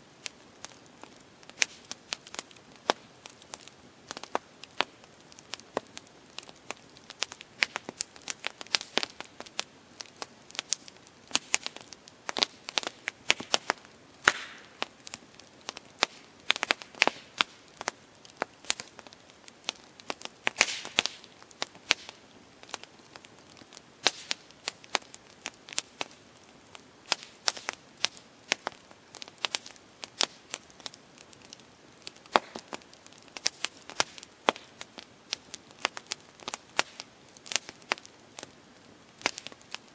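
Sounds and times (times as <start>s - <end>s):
campfire crackling: 0.0s - 39.9s
faint steady hiss: 0.0s - 39.9s.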